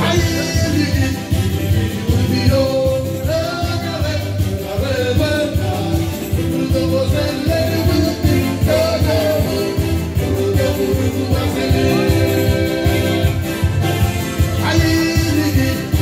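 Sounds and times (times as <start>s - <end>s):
live band music: 0.0s - 16.0s
person singing: 0.0s - 16.0s.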